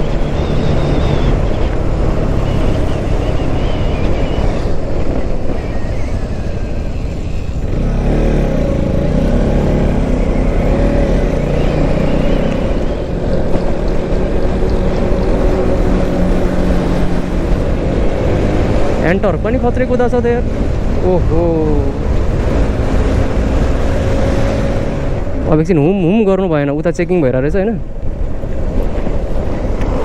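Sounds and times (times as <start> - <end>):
motorcycle engine running: 0.0 - 25.6
road and wind noise: 0.0 - 30.0.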